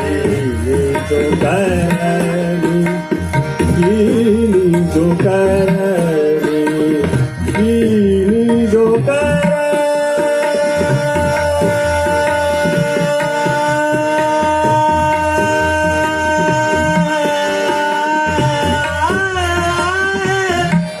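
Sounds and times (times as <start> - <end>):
harmonium: 0.0 - 21.0
man singing classical vocals: 0.0 - 21.0
tabla rhythm: 0.0 - 21.0.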